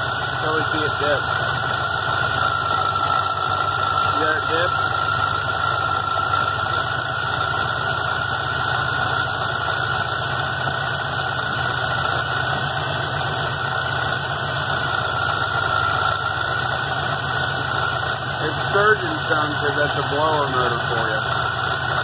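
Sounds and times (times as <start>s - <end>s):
engine idling: 0.0s - 22.0s
supercharger whine: 0.0s - 22.0s.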